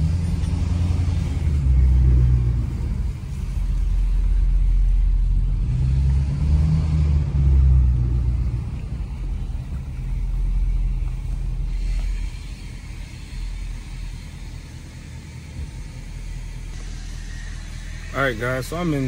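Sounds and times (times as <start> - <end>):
truck engine and exhaust: 0.0 - 19.0.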